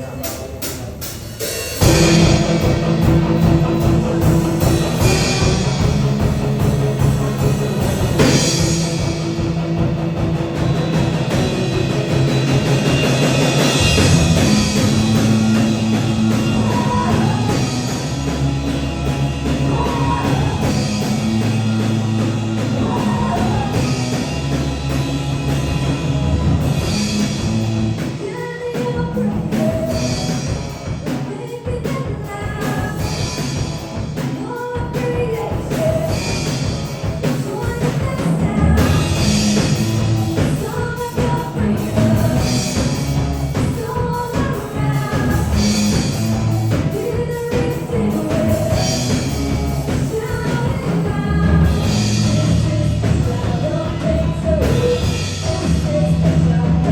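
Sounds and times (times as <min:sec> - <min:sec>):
rock band music: 0:00.0 - 0:56.9.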